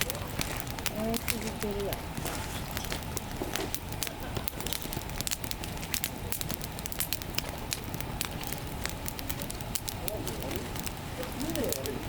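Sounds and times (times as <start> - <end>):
campfire crackling and popping: 0.0 - 12.0
fire rushing: 0.0 - 12.0.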